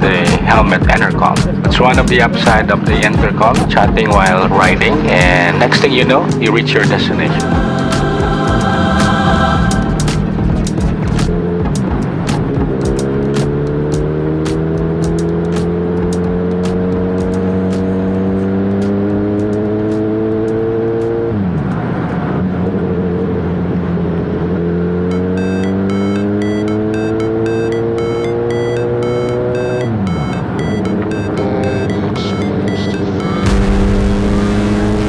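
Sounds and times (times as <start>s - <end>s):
background music with a beat: 0.0s - 21.2s, 25.1s - 35.0s
motorcycle engine accelerating: 0.0s - 35.0s.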